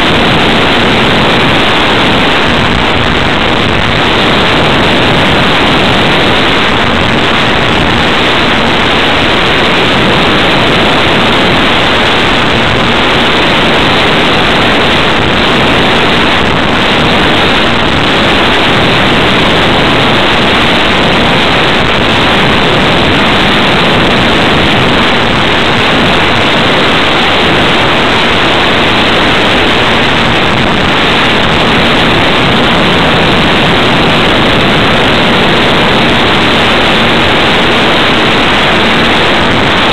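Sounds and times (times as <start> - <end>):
airflow and propeller noise: 0.0 - 39.9
faint steady hum: 0.0 - 39.9.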